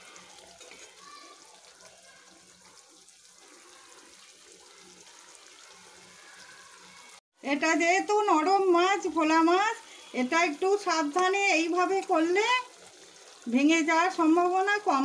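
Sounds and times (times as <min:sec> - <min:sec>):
soft sizzle of simmering curry: 0:00.0 - 0:15.0.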